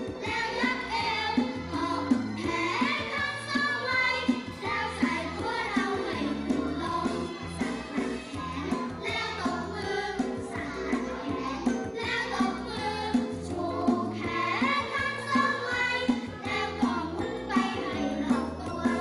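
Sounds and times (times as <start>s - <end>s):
music with singing voices: 0.0s - 19.0s.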